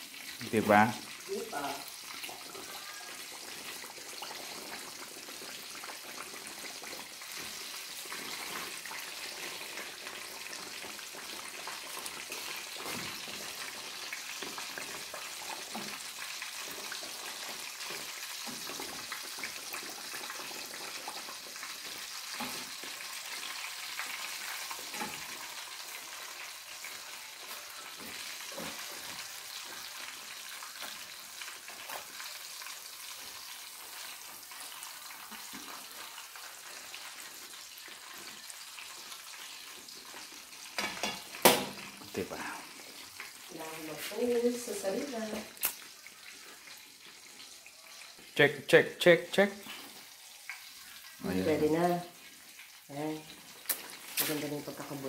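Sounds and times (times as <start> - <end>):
cutlets deep-frying in oil: 0.0 - 55.0.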